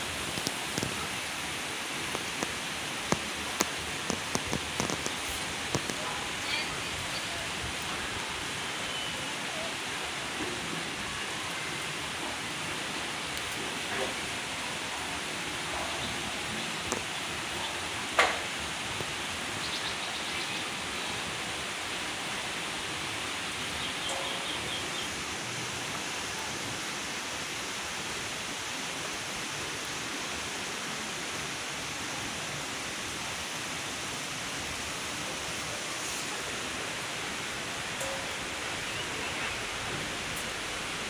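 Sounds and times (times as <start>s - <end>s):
rain falling on trees: 0.0s - 41.0s.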